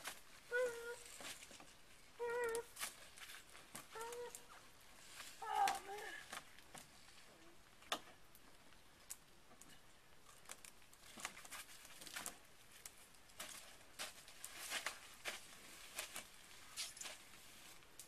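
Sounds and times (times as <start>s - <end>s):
rustling on dry leaves: 0.0s - 7.5s, 10.6s - 18.0s.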